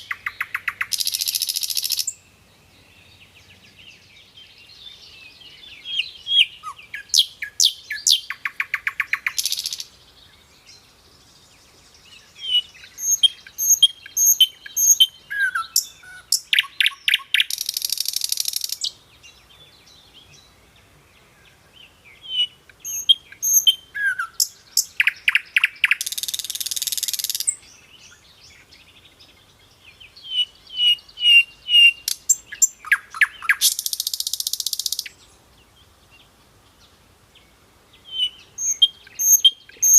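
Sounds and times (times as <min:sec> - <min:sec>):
flycatcher singing: 0:00.0 - 0:02.3, 0:03.1 - 0:20.5, 0:22.2 - 0:35.4, 0:38.0 - 0:39.9.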